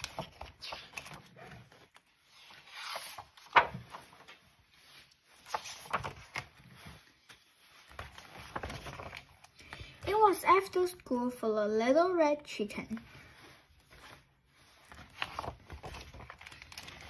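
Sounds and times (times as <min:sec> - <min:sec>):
book pages rustling: 0:00.0 - 0:10.9, 0:12.8 - 0:17.0.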